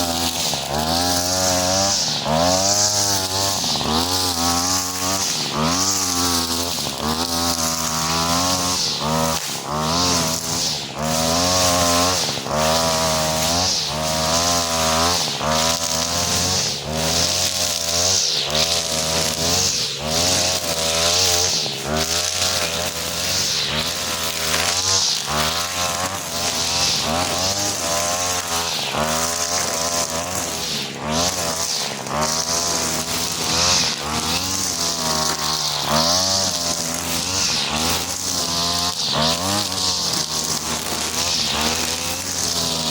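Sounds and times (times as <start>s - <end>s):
brush cutter engine running: 0.0s - 42.9s.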